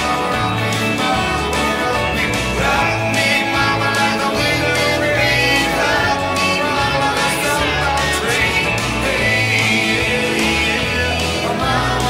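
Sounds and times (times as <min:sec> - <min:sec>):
song with singer over beat: 0:00.0 - 0:12.0.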